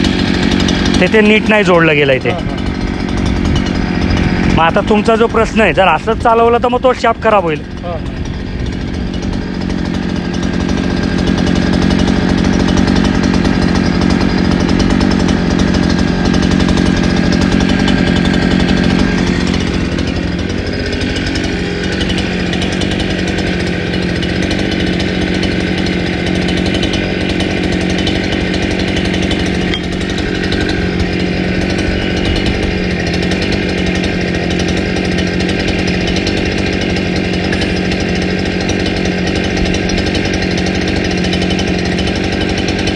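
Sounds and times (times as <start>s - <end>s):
brush cutter engine running: 0.0s - 42.9s.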